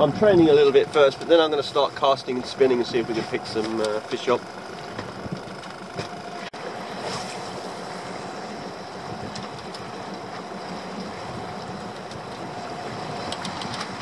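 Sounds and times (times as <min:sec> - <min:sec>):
boat engine running: 0:00.0 - 0:14.0
water washing along hull: 0:00.0 - 0:14.0.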